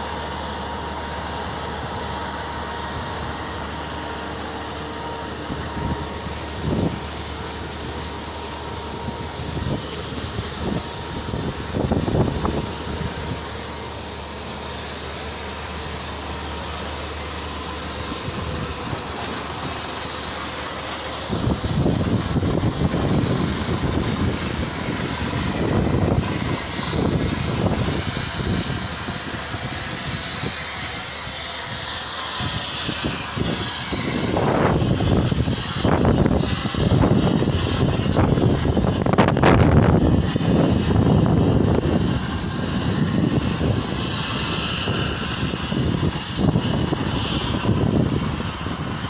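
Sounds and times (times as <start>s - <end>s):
concrete pump running: 0.0s - 49.0s.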